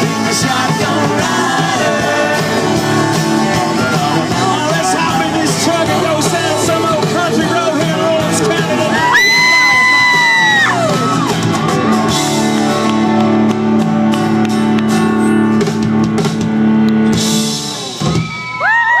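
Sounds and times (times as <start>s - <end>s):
country-rock band final chord: 0.0s - 18.1s.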